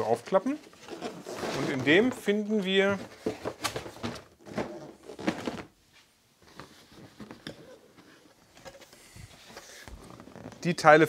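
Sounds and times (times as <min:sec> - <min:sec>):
cardboard and plastic rustles: 0:00.0 - 0:05.8, 0:06.4 - 0:10.8.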